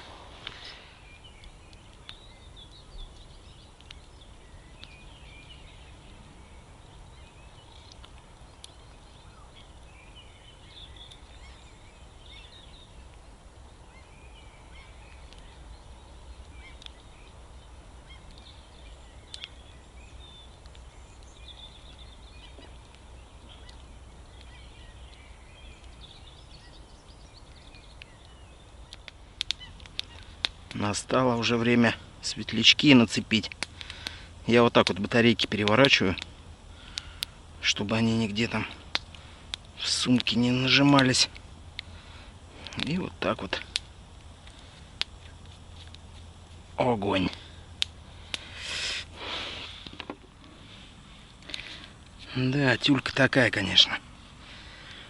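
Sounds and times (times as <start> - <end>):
campfire pops: 0.0 - 5.8, 7.6 - 9.8, 10.9 - 11.4, 14.8 - 53.3
distant bird calls: 0.0 - 55.0.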